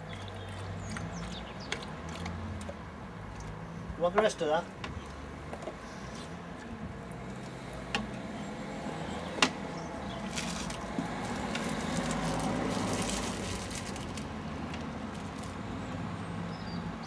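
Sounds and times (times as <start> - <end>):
vehicle passing: 0.1 - 17.0.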